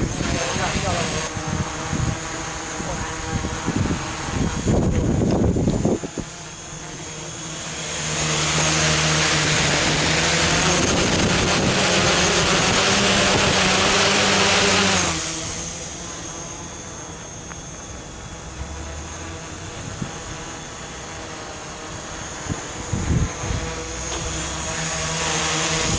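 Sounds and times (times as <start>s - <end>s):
quadcopter motors buzzing: 0.0s - 25.9s.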